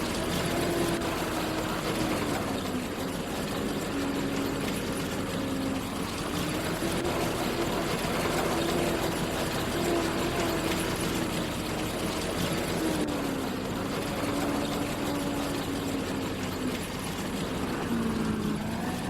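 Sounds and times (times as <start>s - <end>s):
farm machinery engine running: 0.0s - 19.0s.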